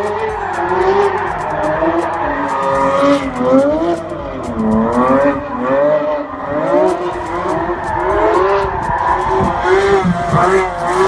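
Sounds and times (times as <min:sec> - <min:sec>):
car engine revving: 0:00.0 - 0:11.0
exhaust crackles: 0:00.0 - 0:11.0.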